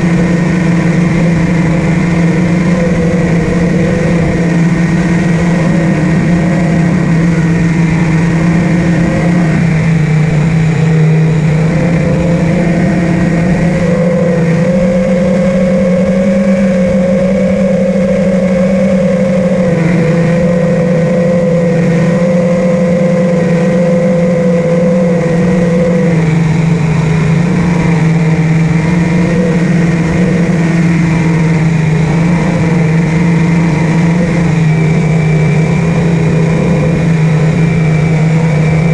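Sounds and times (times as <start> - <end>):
drone motors and propellers whining: 0.0 - 38.9.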